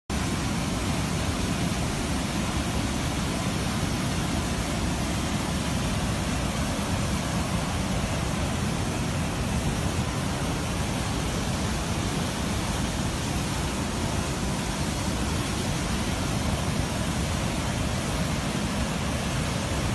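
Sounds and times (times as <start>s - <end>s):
water rushing over a weir: 0.1s - 19.9s.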